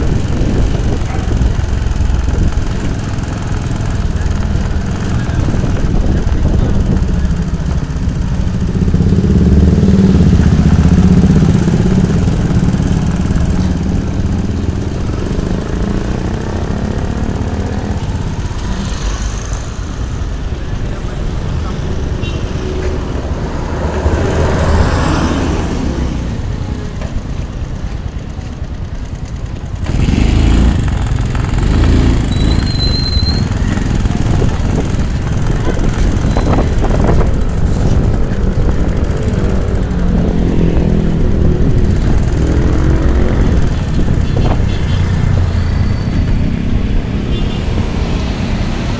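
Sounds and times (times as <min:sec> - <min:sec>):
motor scooter engine: 0:00.0 - 0:48.9
passing traffic: 0:00.0 - 0:48.9.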